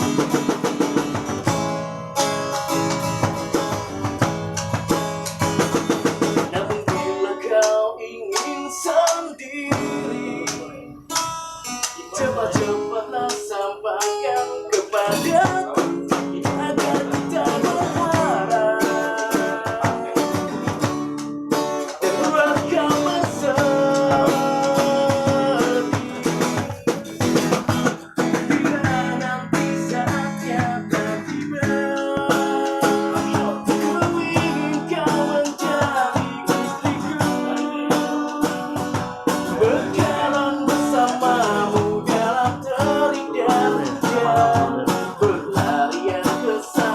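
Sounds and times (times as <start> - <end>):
guitar strumming: 0.0 - 46.9
person singing: 6.4 - 46.9.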